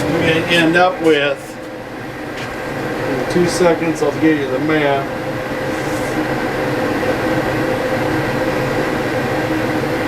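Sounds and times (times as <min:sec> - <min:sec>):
oil burner blower and flame hum: 0:00.0 - 0:10.0.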